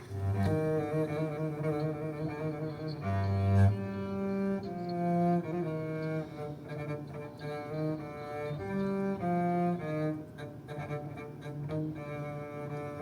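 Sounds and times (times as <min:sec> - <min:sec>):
cello and bowed strings: 0:00.0 - 0:13.0.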